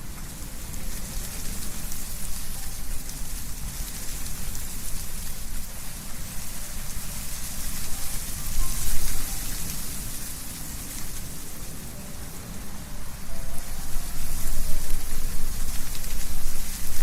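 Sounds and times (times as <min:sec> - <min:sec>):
leaves rustling: 0:00.0 - 0:17.0
wind blowing through trees: 0:00.0 - 0:17.0.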